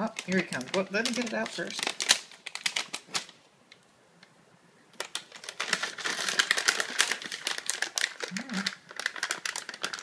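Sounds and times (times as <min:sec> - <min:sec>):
treat packaging rustling: 0:00.0 - 0:03.4, 0:05.0 - 0:10.0.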